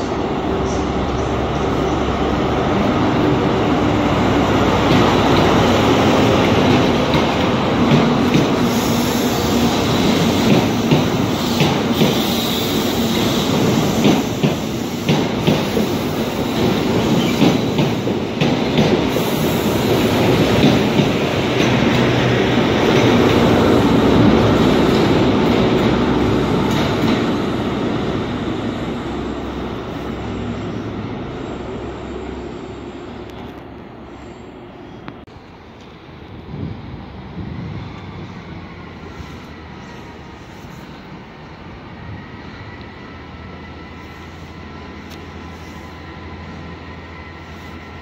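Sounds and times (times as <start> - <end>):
train running past: 0.0 - 48.0.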